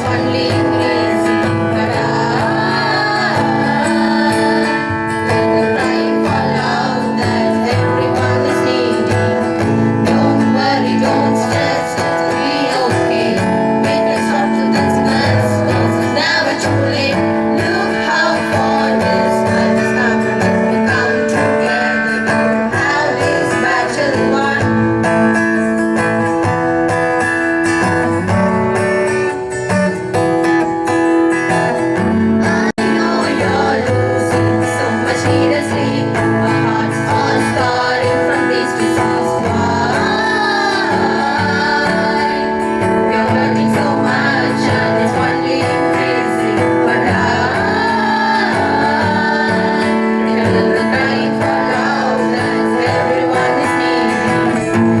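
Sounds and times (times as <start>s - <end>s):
people singing: 0.0s - 26.4s, 30.2s - 55.0s
strummed acoustic guitar: 0.0s - 55.0s.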